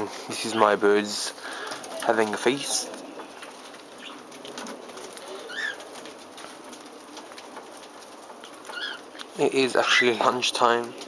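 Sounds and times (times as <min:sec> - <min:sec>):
faint clicking of feeding birds: 0:00.1 - 0:11.0.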